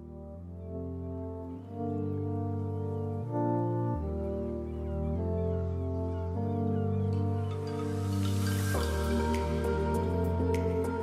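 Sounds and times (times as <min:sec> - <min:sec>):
slow held chords music: 0:00.0 - 0:11.0.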